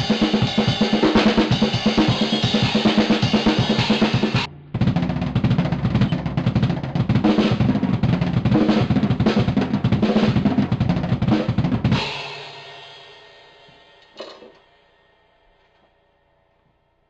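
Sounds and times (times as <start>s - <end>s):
drum kit played fast: 0.0s - 14.0s.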